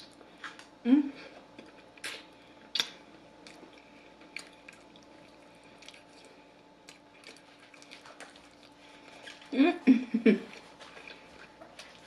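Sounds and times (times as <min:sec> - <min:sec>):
person chewing food: 0:00.0 - 0:09.6, 0:10.4 - 0:12.0
faint steady hum: 0:00.0 - 0:12.0.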